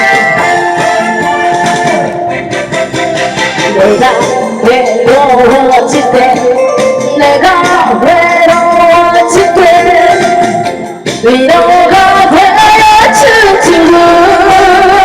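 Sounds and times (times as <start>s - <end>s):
bending lead melody: 0.0s - 12.2s
backing music: 0.0s - 15.0s.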